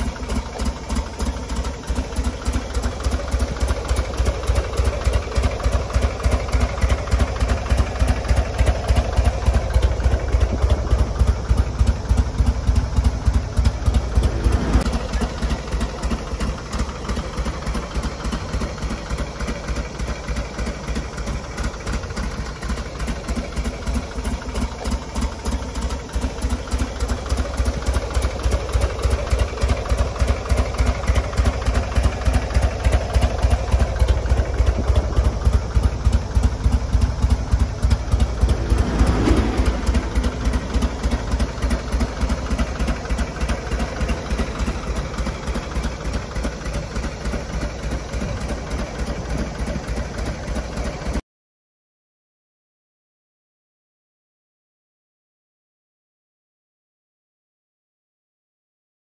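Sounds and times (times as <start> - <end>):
motorcycle engines idling: 0.0 - 51.2.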